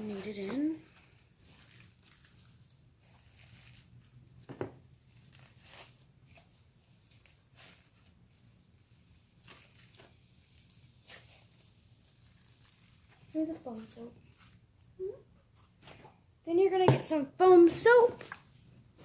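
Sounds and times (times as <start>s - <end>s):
slime squelching: 0.0s - 16.1s, 16.8s - 19.0s.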